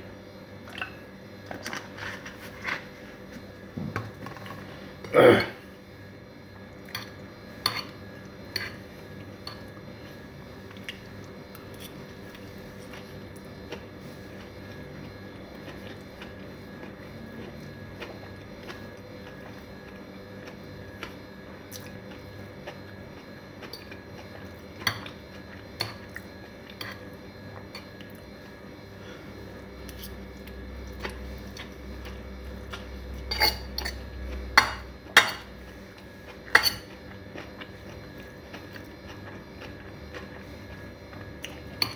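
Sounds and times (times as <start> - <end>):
faint hum: 0.0 - 41.9.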